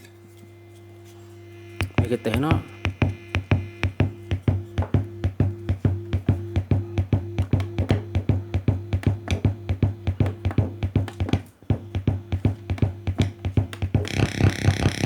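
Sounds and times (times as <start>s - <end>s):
electronic music with drum-machine beat: 1.5s - 15.0s.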